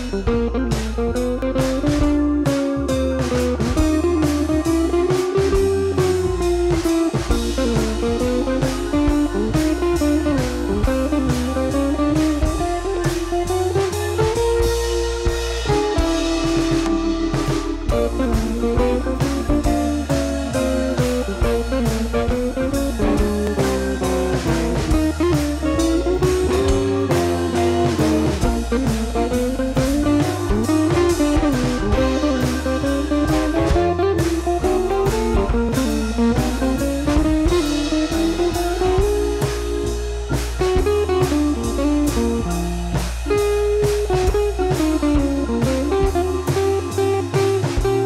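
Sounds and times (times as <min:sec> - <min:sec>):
guitar-led music with drums: 0:00.0 - 0:48.0.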